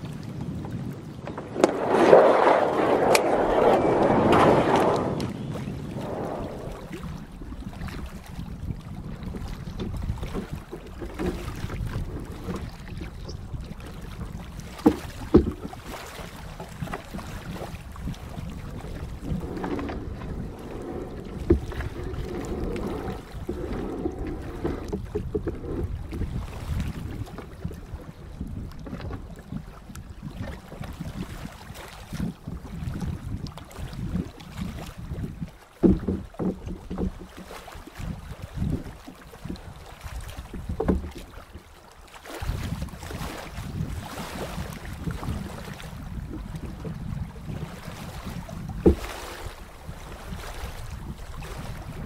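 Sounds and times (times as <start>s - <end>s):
water lapping at hull: 0.0s - 52.0s
wind on microphone: 0.0s - 52.0s
canoe paddle strokes: 0.5s - 52.0s.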